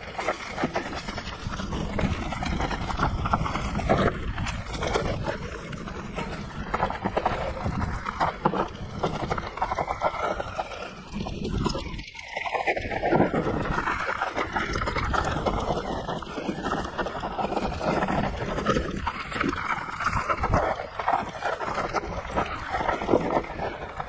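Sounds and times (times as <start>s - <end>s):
wind buffeting microphone: 0.0s - 12.1s, 12.7s - 24.0s.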